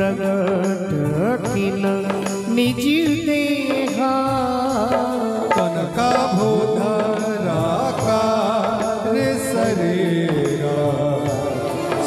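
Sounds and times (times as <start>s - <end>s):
hand drums: 0.0s - 12.0s
keyboard: 0.0s - 12.0s
men singing devotional song: 0.0s - 12.0s.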